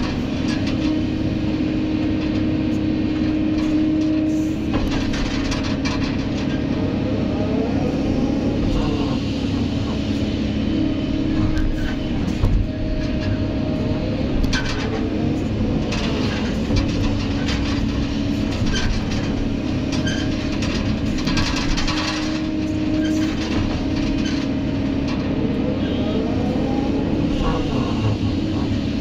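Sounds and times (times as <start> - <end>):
diesel engine running: 0.0 - 29.0
hydraulic whine: 0.0 - 29.0.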